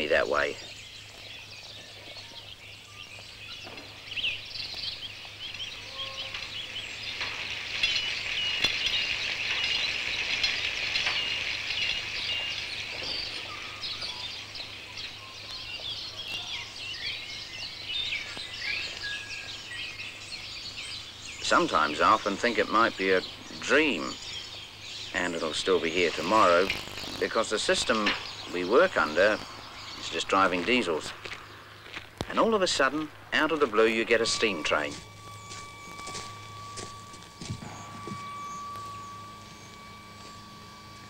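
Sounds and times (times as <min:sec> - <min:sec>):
faint low hum: 0:00.0 - 0:41.0
small birds chirping: 0:00.0 - 0:41.0.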